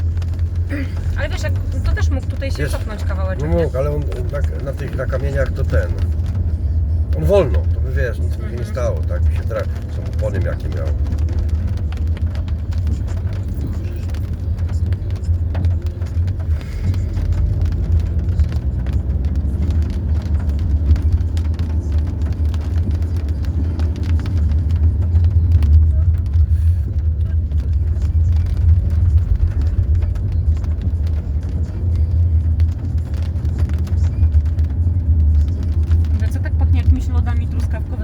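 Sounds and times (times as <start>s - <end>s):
car engine and tyre drone: 0.0s - 38.0s.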